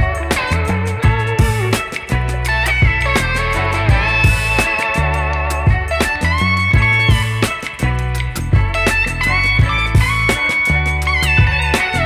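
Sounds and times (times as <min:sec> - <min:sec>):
guitar-led instrumental music: 0:00.0 - 0:12.0
steady drum beat: 0:00.0 - 0:12.0.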